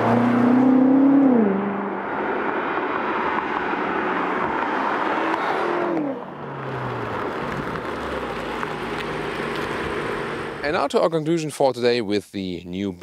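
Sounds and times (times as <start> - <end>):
tyre and road noise: 0.0 - 11.1.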